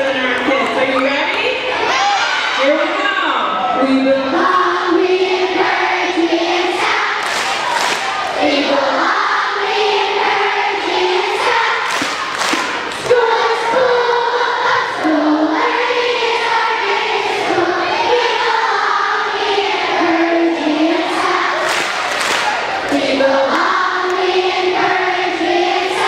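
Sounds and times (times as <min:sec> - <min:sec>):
children singing in unison: 0:04.0 - 0:26.0.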